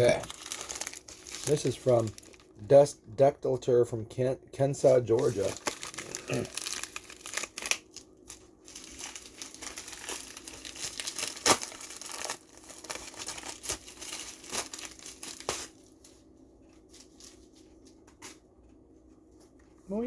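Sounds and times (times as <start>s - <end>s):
packaging crinkling and crackling: 0.0s - 2.6s, 4.8s - 18.4s.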